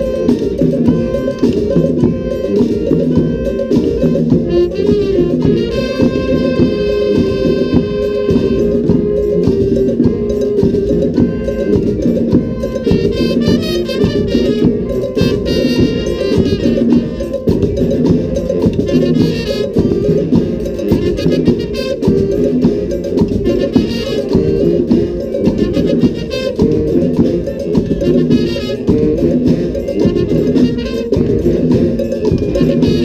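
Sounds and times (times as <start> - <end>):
brass and saxophone band: 0.0 - 33.0
hand percussion: 0.0 - 33.0.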